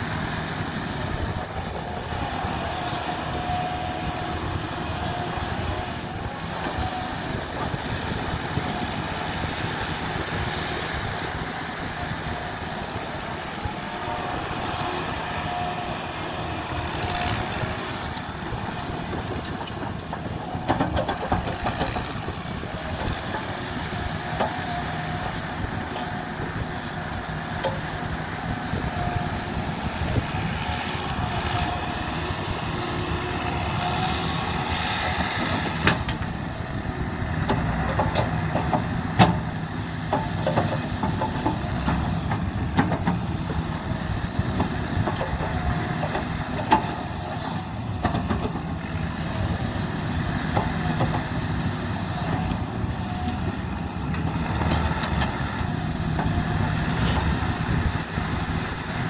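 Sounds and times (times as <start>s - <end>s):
excavator engine under load: 0.0s - 59.0s.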